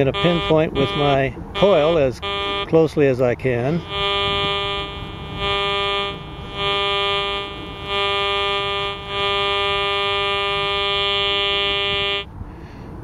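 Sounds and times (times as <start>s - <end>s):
metal detector buzzy tone: 0.0s - 2.8s, 3.7s - 12.3s.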